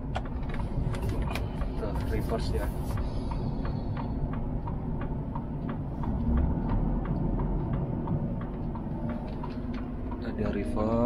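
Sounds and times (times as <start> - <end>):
low engine rumble: 0.0 - 11.0
steady ticking: 0.0 - 11.0.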